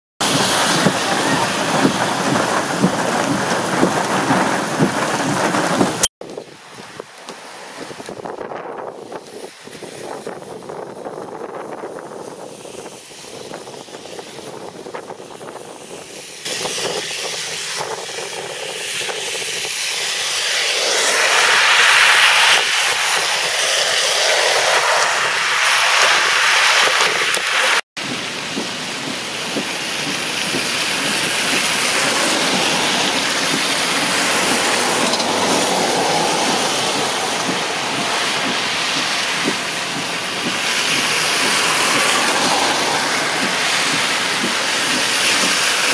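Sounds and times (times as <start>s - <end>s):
tyres splashing through water: 0.2s - 45.9s.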